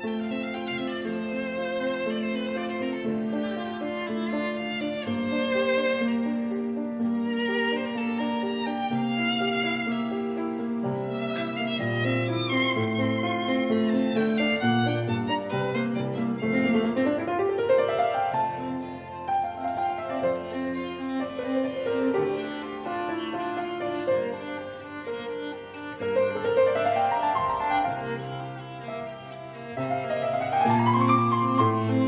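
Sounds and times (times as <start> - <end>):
piano accompaniment: 0.0 - 32.0
violin melody: 0.0 - 32.0.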